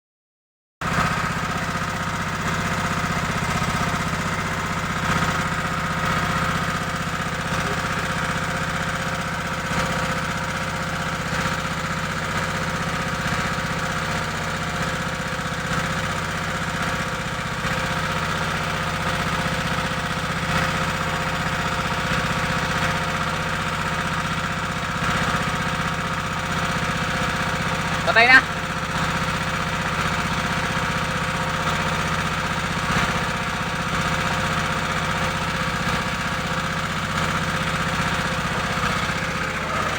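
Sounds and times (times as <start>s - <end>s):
boat engine running: 0.9s - 39.9s.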